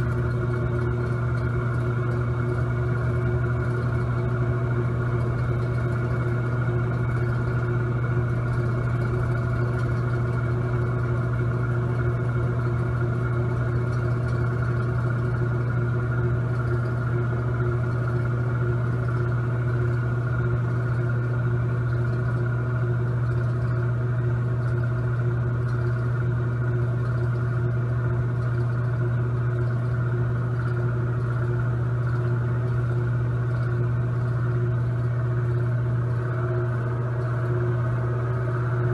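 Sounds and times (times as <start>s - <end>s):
electric fan motor hum: 0.0s - 38.9s.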